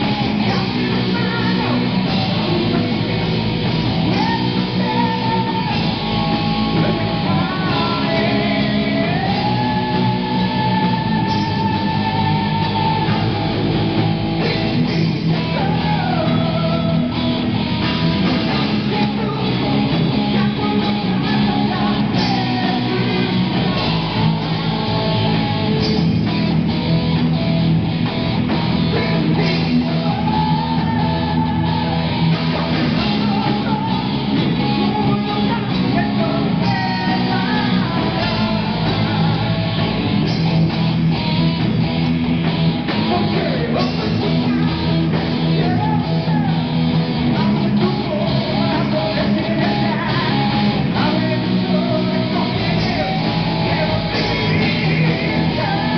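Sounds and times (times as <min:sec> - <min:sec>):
heavy rock band playing: 0:00.0 - 0:55.9.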